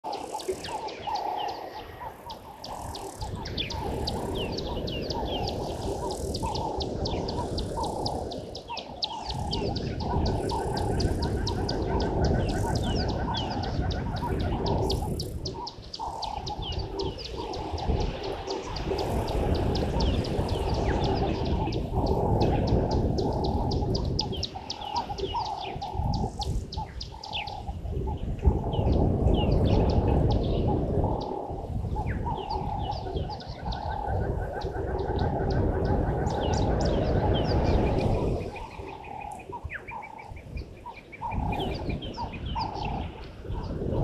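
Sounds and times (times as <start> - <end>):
lower bird calls: 0.0 - 44.0.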